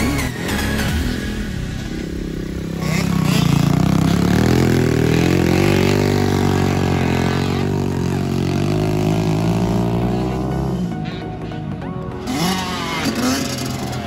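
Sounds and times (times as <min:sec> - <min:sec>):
small motorbike engine running: 0:00.0 - 0:14.0.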